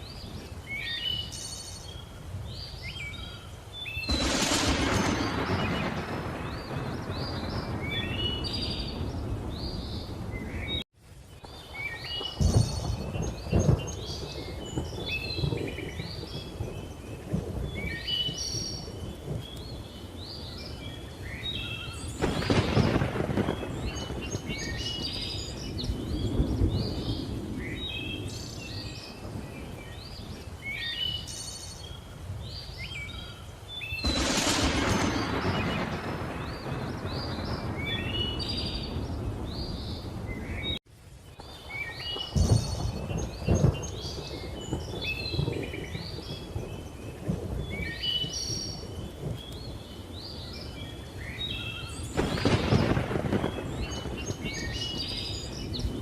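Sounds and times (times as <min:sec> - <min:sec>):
birds chirping: 0:00.0 - 0:56.0
hissing rain: 0:00.0 - 0:56.0
thunder rumbling and cracking: 0:04.0 - 0:10.8, 0:11.4 - 0:30.8, 0:33.9 - 0:40.8, 0:41.4 - 0:56.0.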